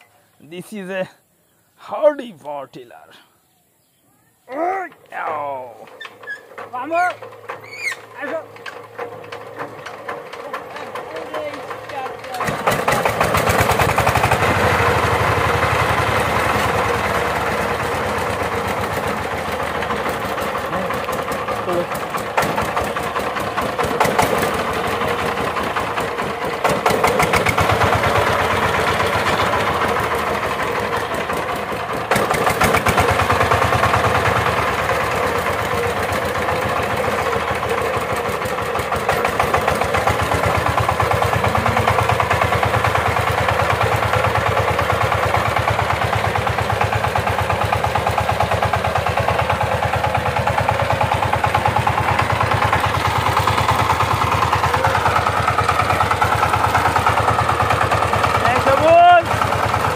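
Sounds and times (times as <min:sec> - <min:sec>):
diesel tiller engine running: 0:04.5 - 0:59.9.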